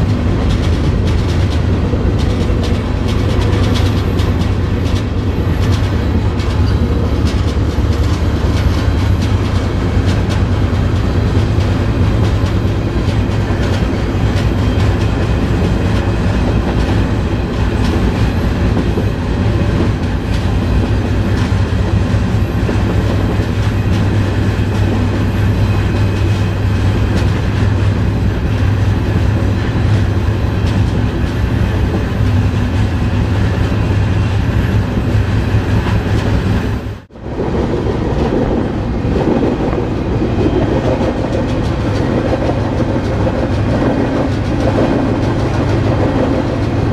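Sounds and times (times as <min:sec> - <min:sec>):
freight train rumble: 0:00.0 - 0:46.9
wheels clattering over rail joints: 0:00.0 - 0:46.9.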